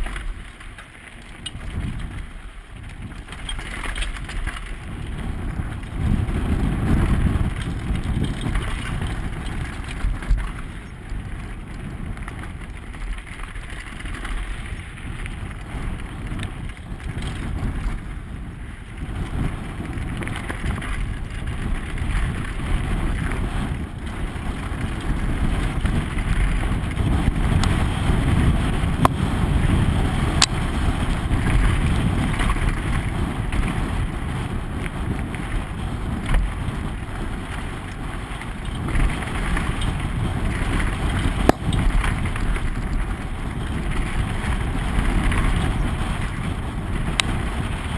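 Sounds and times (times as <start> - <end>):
bike knocks and clicks: 0.0 - 18.0, 19.1 - 47.9
wind on microphone: 0.0 - 47.9.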